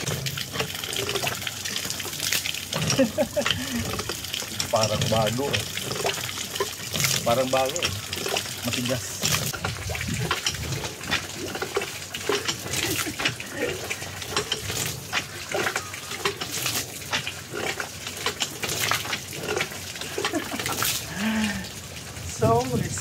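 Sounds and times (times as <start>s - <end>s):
pump handle knocking and clattering: 0.0s - 23.0s
water splashing from pump spout: 0.0s - 23.0s.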